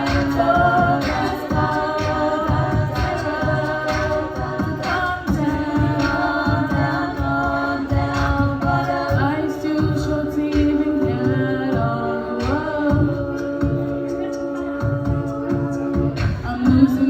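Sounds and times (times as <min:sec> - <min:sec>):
steady low beat: 0:00.0 - 0:17.0.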